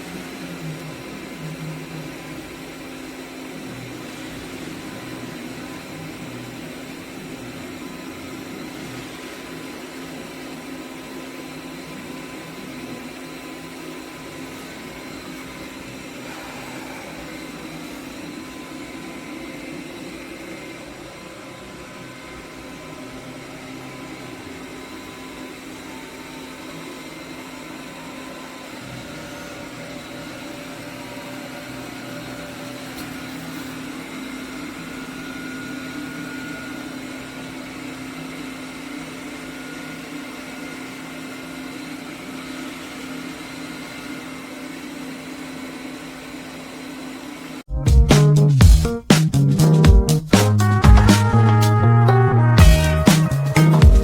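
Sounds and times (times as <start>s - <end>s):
robot vacuum cleaner humming: 0.0s - 47.7s, 52.6s - 54.0s.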